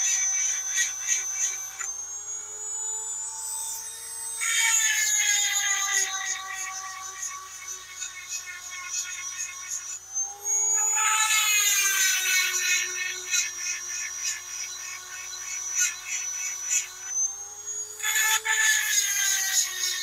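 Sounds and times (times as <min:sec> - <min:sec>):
chain sharpener whining: 0:00.0 - 0:20.0
grinding stone rasping: 0:00.0 - 0:20.0.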